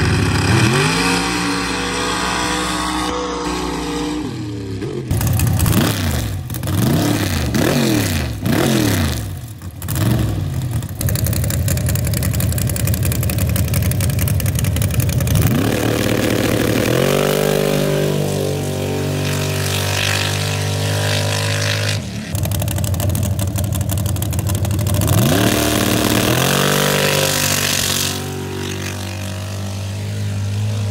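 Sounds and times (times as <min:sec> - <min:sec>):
supercharged truck engine revving: 0:00.0 - 0:30.9.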